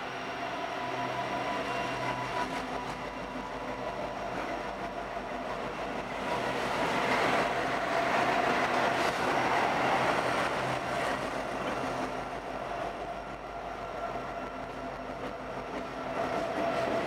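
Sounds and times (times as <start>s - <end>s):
freight cars rolling on rails: 0.0s - 17.0s.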